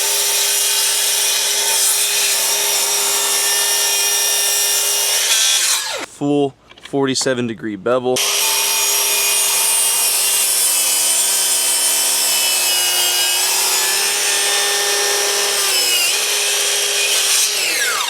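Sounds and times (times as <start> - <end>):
miter saw cutting wood: 0.0 - 6.1, 8.2 - 18.0.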